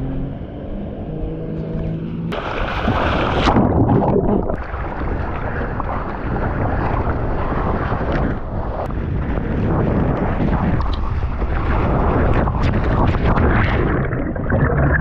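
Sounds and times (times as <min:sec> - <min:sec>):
wind buffeting microphone: 0:01.6 - 0:15.0
rushing water: 0:02.3 - 0:15.0.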